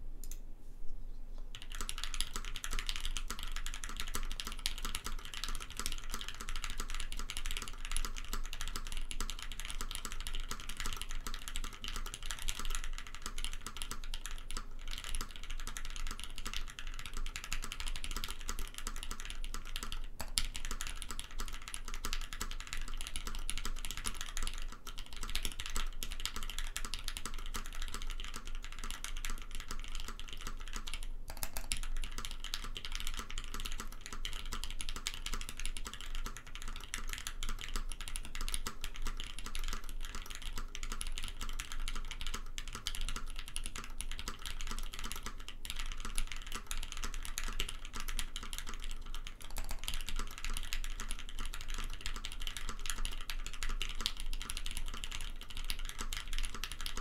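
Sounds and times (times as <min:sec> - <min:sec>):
fast typing on mechanical keyboard: 0:01.5 - 0:57.0.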